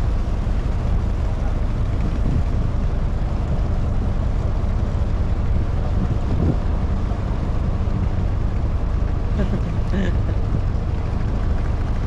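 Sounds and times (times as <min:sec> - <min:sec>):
boat engine droning: 0:00.0 - 0:12.0
wind buffeting microphone: 0:00.0 - 0:12.0.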